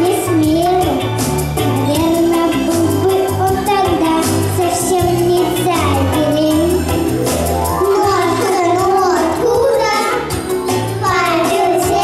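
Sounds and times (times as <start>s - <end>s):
pop backing track with bass and drums: 0.0s - 12.0s.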